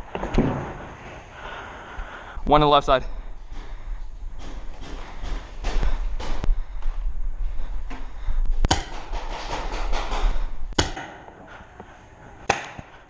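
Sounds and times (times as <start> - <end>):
low rumble of movement: 0.0 - 10.8.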